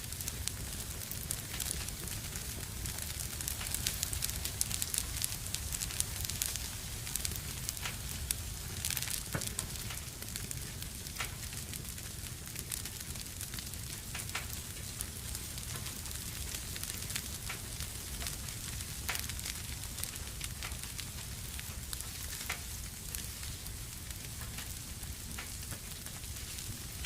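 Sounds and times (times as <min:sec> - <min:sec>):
low rumble of flames: 0:00.0 - 0:27.0
wood fire crackling: 0:00.0 - 0:27.0.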